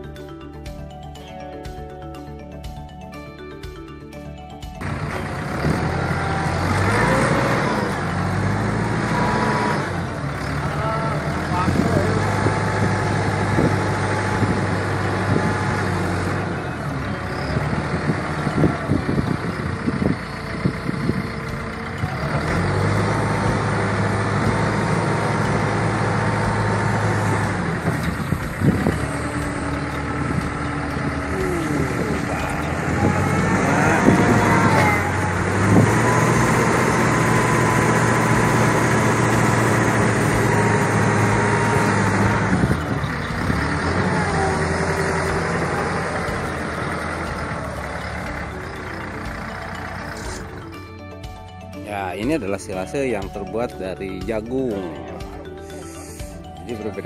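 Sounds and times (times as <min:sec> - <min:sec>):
diesel engine under load: 0:00.0 - 0:57.0
hydraulics whine: 0:04.8 - 0:51.6.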